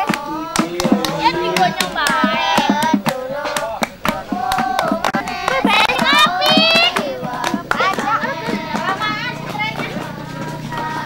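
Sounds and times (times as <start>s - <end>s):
children singing together: 0.0s - 11.0s
hand claps keeping beat: 0.0s - 11.0s.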